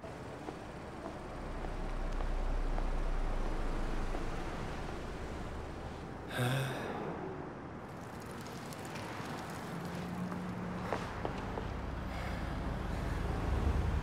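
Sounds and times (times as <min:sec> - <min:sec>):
cars passing rumble: 0:00.0 - 0:14.0.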